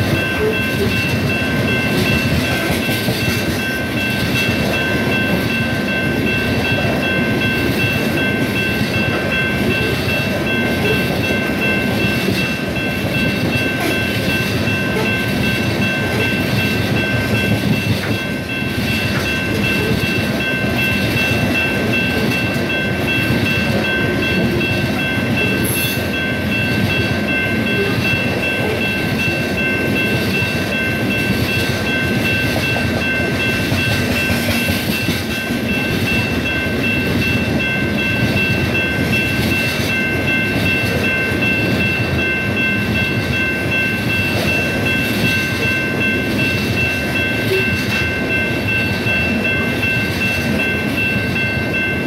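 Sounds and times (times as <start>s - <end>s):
train wheels rumbling and rattling: 0.0s - 52.0s.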